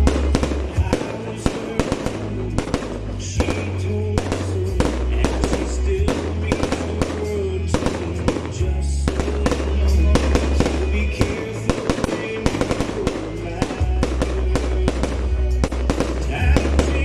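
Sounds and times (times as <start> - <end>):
fireworks bangs and crackles: 0.0 - 17.0
loud music with deep bass: 0.0 - 17.0.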